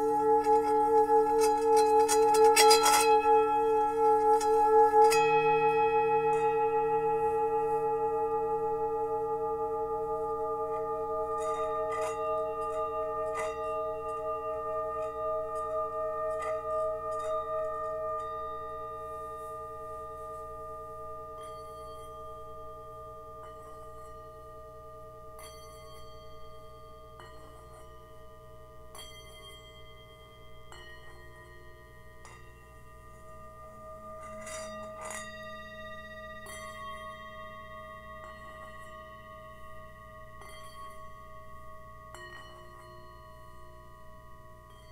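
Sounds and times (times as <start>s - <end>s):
singing bowls ringing: 0.0s - 44.9s.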